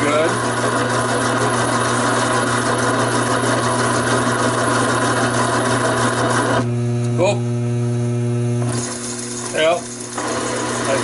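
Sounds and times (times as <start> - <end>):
lathe blade cutting steel: 0.0 - 6.6, 8.7 - 11.0
lathe motor hum: 0.0 - 7.2, 8.6 - 11.0.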